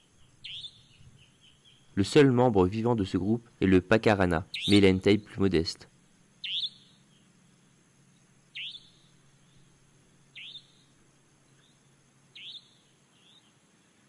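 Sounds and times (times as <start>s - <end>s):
bird chirping: 0.0s - 5.6s, 6.3s - 7.5s, 8.1s - 13.7s
faint low hum: 0.0s - 14.0s.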